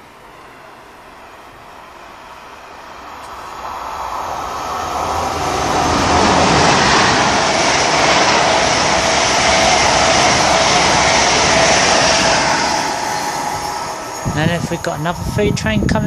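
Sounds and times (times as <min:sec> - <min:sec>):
passenger train passing at speed: 0:00.0 - 0:16.0.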